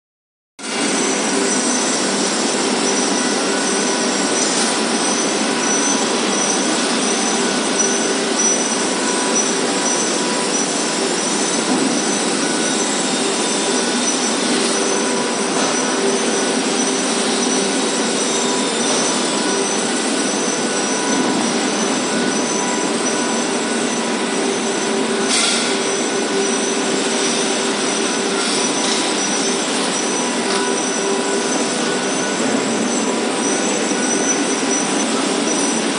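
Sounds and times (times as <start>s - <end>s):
steady mechanical noise: 0.6s - 35.9s.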